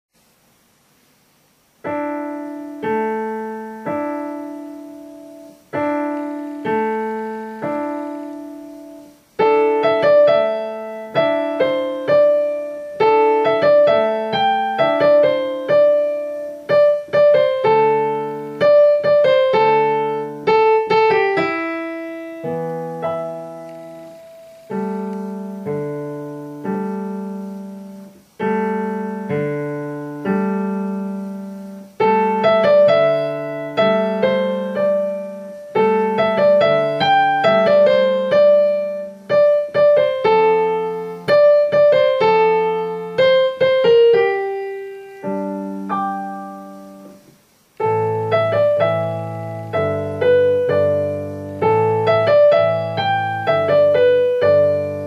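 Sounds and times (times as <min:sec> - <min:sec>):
digital piano piece: 0:01.5 - 0:55.0.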